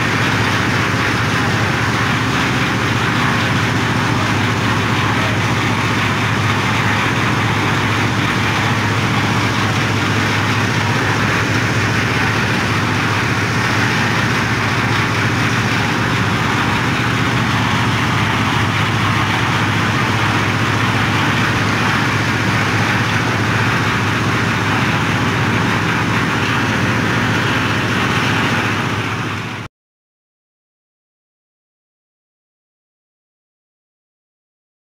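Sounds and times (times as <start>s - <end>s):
concrete mixer engine drone: 0.0s - 29.7s.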